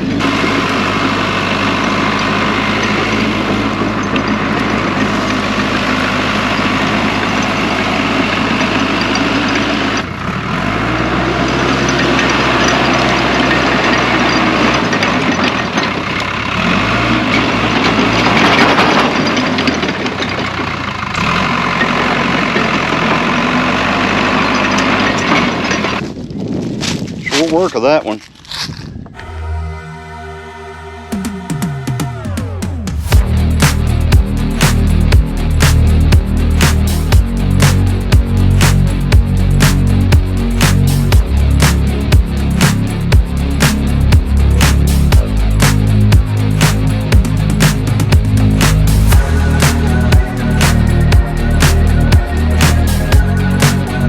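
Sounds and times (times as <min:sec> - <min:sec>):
bulldozer diesel engine working: 0:00.0 - 0:26.1, 0:29.2 - 0:54.0.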